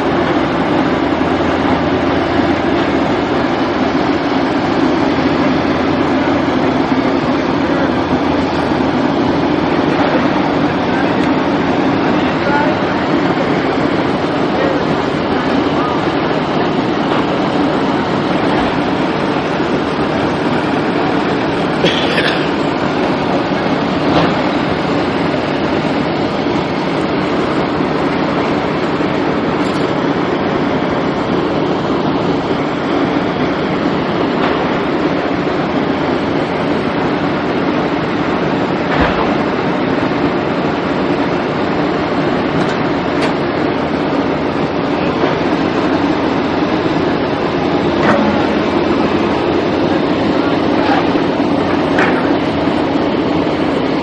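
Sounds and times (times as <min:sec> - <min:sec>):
vehicle running noise: 0:00.0 - 0:54.0.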